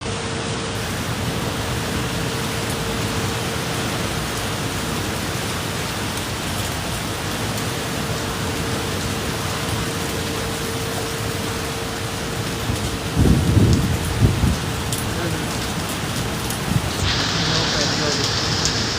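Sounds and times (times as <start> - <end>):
steady rainfall: 0.0 - 18.9.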